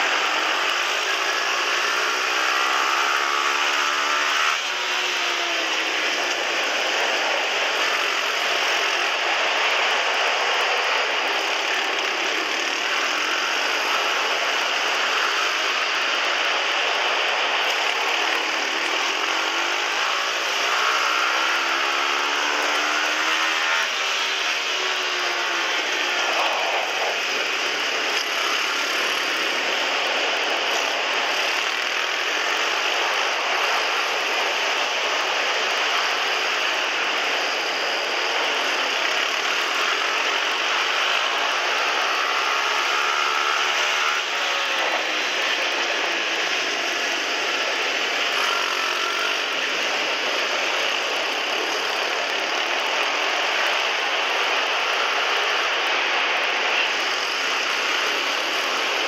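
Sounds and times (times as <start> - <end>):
small motorbike engine revving: 0.0 - 59.0.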